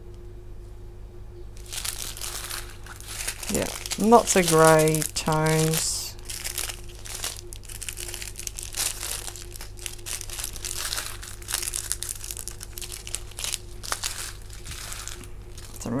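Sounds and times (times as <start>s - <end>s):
plastic bags crinkling: 1.6s - 16.0s.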